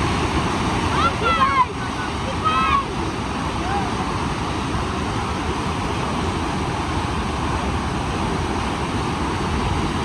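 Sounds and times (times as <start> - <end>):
waterfall rushing: 0.0 - 10.0
wind rumbling on microphone: 0.0 - 10.0.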